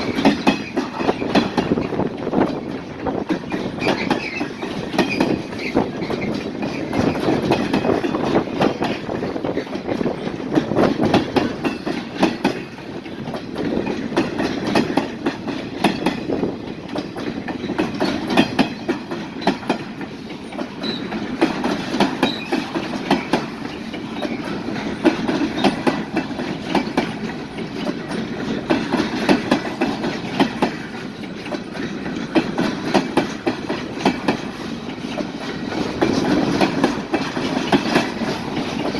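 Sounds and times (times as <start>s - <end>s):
train rumble: 0.0s - 38.9s
train wheels clicking over rail joints: 0.0s - 38.9s.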